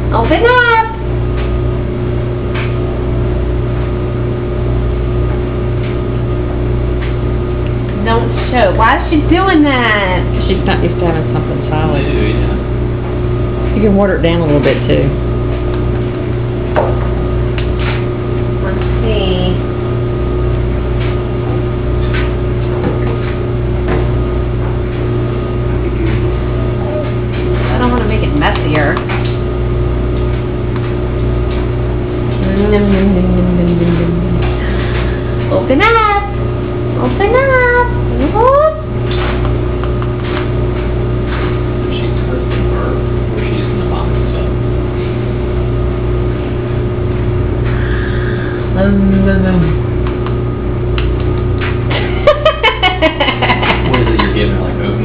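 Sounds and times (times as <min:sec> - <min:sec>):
steady low machine hum: 0:00.0 - 0:55.0.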